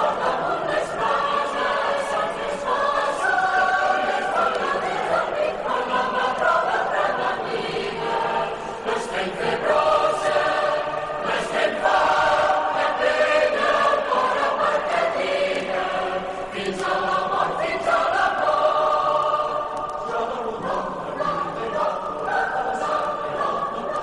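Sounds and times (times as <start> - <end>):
choir singing long notes: 0.0 - 24.0.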